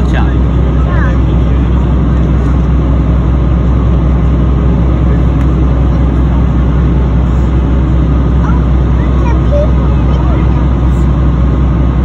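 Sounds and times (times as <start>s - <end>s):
ferry engine humming: 0.0s - 12.0s.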